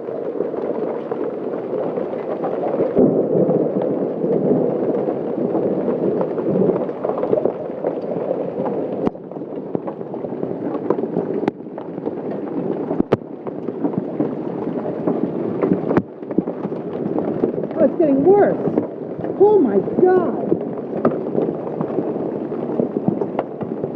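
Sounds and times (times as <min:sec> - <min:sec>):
hail and rain pelting down: 0:00.0 - 0:23.9.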